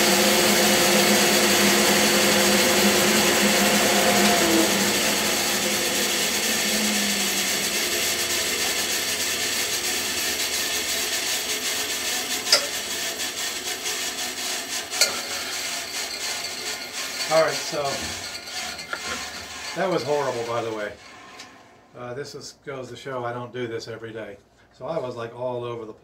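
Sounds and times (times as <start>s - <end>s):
band saw motor hum: 0.0s - 21.6s
band saw blade noise: 0.0s - 21.7s.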